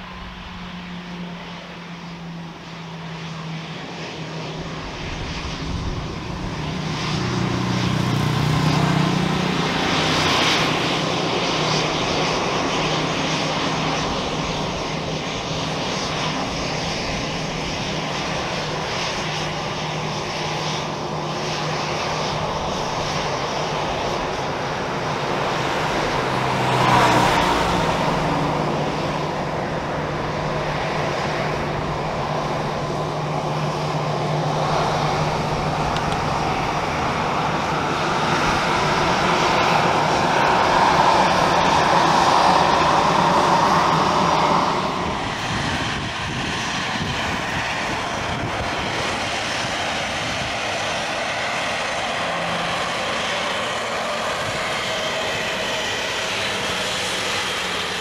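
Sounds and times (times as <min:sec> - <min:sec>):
jet engines at taxi power: 0:00.0 - 0:58.0.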